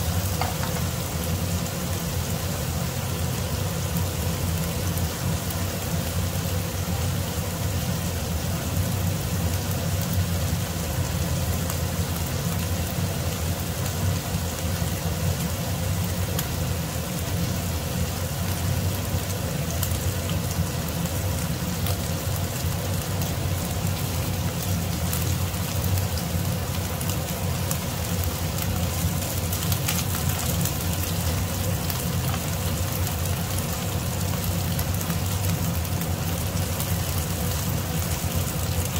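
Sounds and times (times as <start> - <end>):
meat sizzling in a frying pan: 0.0 - 38.9.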